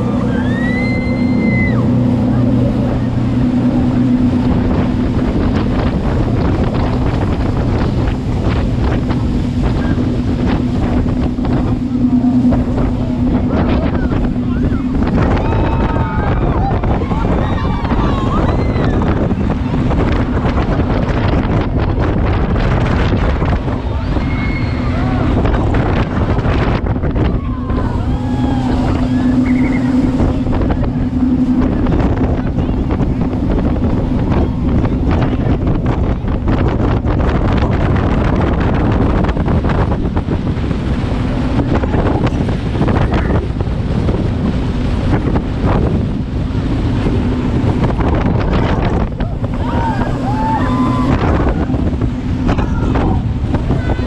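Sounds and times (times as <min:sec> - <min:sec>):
boat engines droning: 0:00.0 - 0:54.0
wind buffeting microphone: 0:00.0 - 0:54.0.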